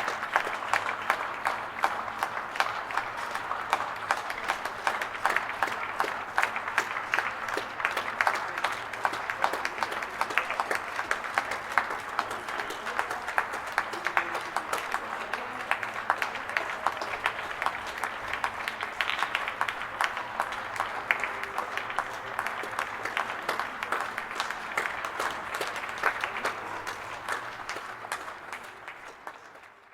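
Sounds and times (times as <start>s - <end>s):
crowd applauding: 0.0s - 29.9s
faint crowd voices: 0.0s - 29.9s.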